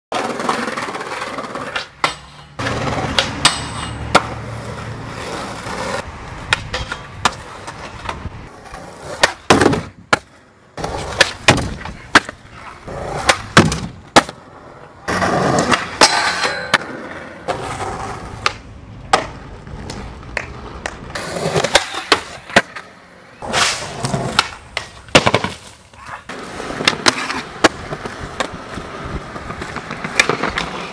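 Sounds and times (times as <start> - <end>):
skateboard clacking and slapping: 0.1 - 14.5, 15.1 - 30.9
skateboard wheels rolling on concrete: 0.1 - 30.9.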